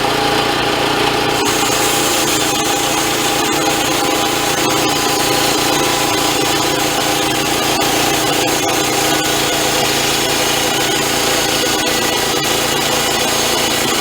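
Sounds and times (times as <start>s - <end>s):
sawmill engine running: 0.0s - 14.0s
saw blade hissing through wood: 1.4s - 14.0s.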